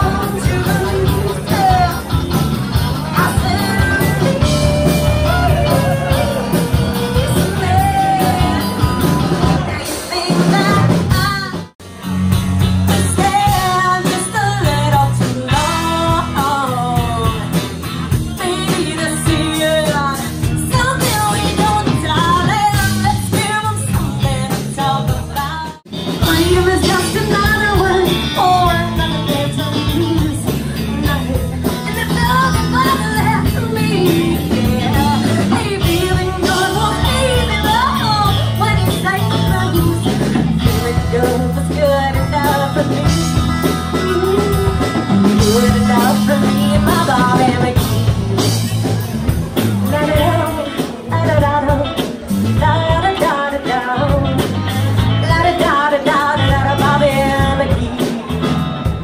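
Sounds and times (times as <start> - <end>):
woman singing: 0.0 - 11.7, 12.9 - 48.6, 49.8 - 58.4
live rock band: 0.0 - 59.0.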